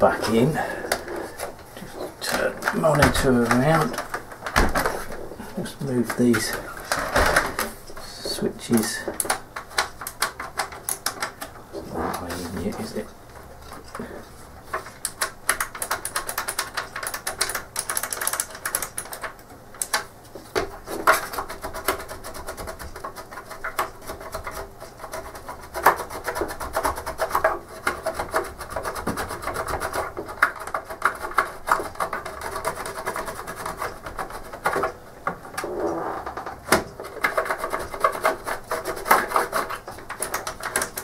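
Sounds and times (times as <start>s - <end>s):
plastic parts scraping and clicking: 0.2s - 41.0s.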